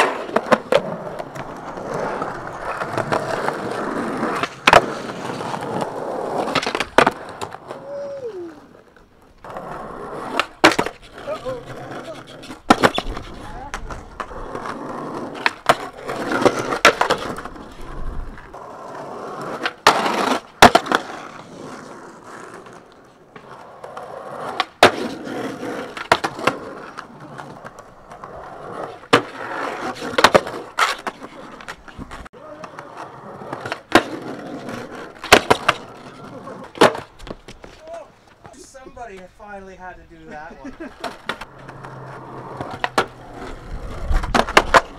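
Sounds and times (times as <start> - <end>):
skateboard clacking on pavement: 0.0 - 7.9, 8.8 - 39.4, 40.9 - 44.9
skateboard wheels rolling on asphalt: 0.0 - 44.9.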